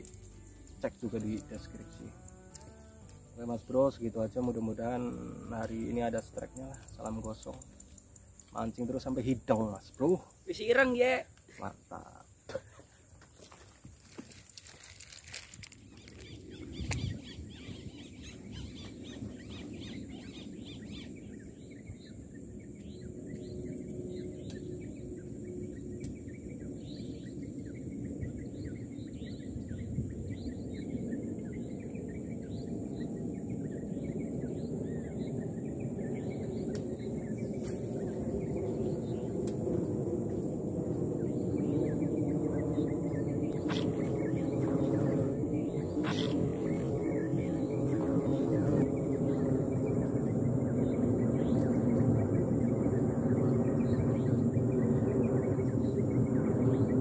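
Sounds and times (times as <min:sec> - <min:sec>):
low rumble: 0:00.0 - 0:10.3, 0:14.4 - 0:57.0
small birds chirping: 0:00.0 - 0:57.0.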